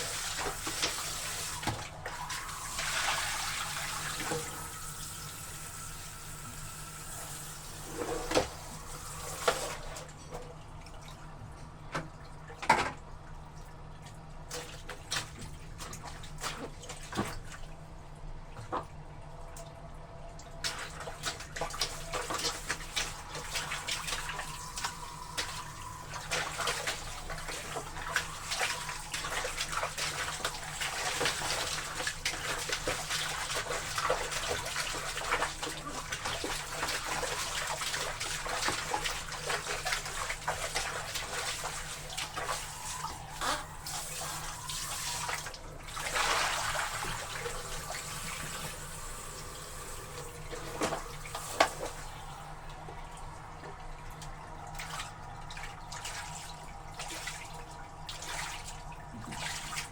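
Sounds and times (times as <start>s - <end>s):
gush of water: 0.0s - 10.2s, 20.5s - 59.9s
water sloshing in a washtub: 0.0s - 59.9s.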